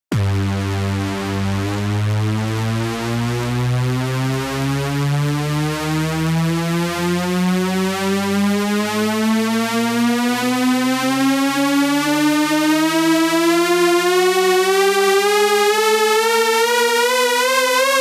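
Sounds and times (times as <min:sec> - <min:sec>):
synthesizer tone rising in pitch: 0:00.1 - 0:18.0.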